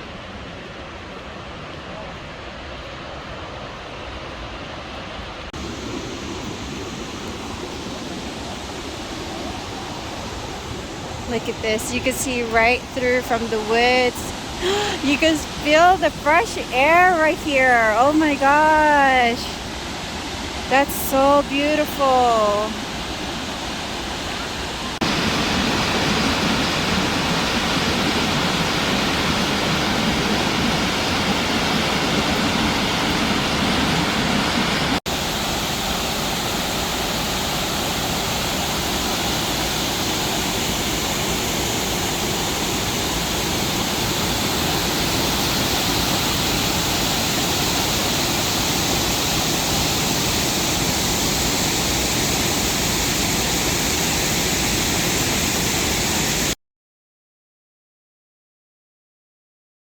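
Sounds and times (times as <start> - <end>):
waterfall roaring: 0.0 - 56.6.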